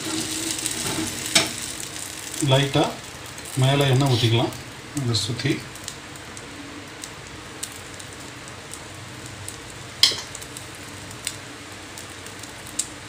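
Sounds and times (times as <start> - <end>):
egg batter sizzling in oil: 0.0 - 13.0.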